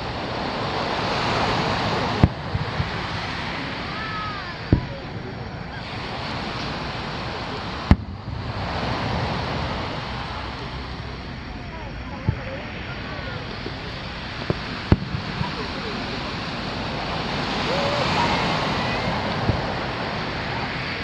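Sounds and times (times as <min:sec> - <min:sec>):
surf washing: 0:00.0 - 0:21.0
distant fireworks bangs: 0:01.2 - 0:11.4, 0:12.2 - 0:17.2, 0:18.2 - 0:20.7.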